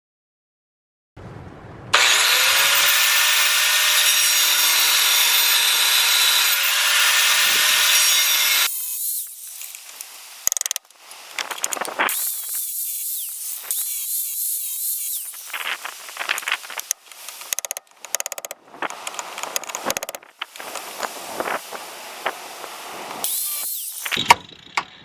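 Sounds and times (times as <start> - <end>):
angle grinder grinding metal: 2.0 - 24.2.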